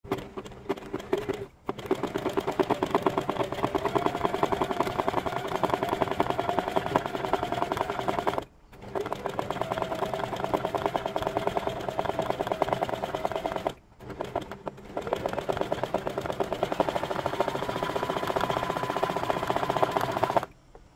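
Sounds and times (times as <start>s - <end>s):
sewing machine motor hum: 0.0s - 20.6s
sewing machine needle clatter: 0.1s - 20.5s.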